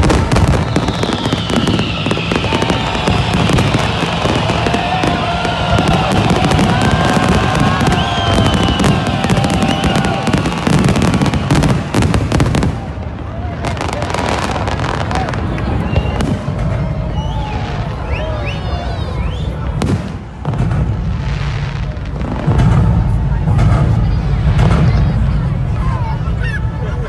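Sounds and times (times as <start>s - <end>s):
fireworks gliding whistles: 0.0s - 12.8s, 13.6s - 23.2s
fireworks bangs and crackling: 0.0s - 26.4s.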